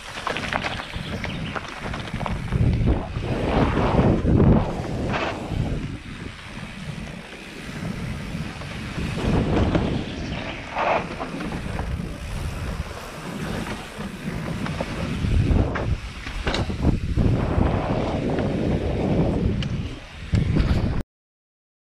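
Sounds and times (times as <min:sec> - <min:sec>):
bike rattling: 0:00.0 - 0:21.0
wind rushing over microphone: 0:00.0 - 0:21.0.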